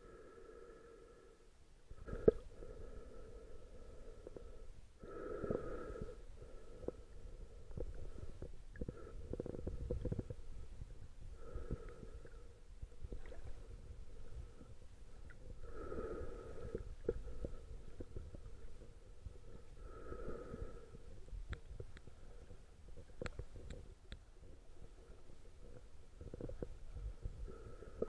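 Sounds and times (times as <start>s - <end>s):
underwater gurgling rumble: 5.4s - 28.0s.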